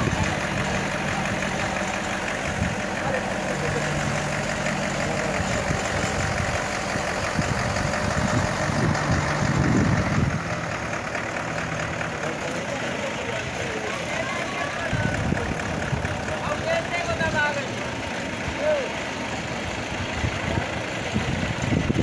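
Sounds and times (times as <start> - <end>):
crane heavy engine running: 0.0 - 22.0.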